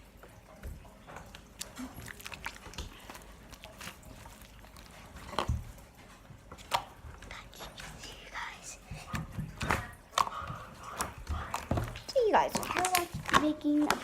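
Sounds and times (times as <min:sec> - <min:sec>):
slime squishing by hand: 0:00.6 - 0:08.1, 0:08.8 - 0:14.0.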